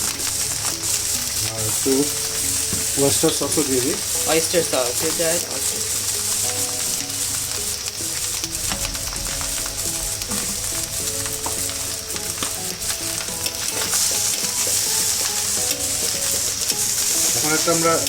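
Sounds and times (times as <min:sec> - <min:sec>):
rice sizzling in a pan: 0:00.0 - 0:18.0
spatula scraping a pan: 0:00.0 - 0:18.0.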